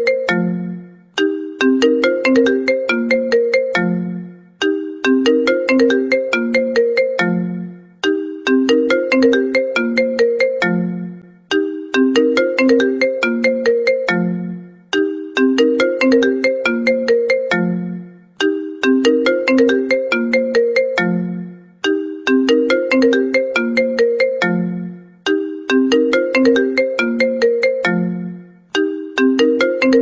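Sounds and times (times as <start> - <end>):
phone ringtone plucked notes: 0.0 - 30.0.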